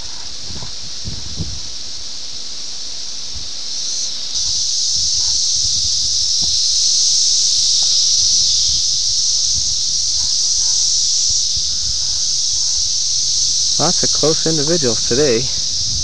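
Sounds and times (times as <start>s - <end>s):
cicadas buzzing: 0.0s - 16.0s.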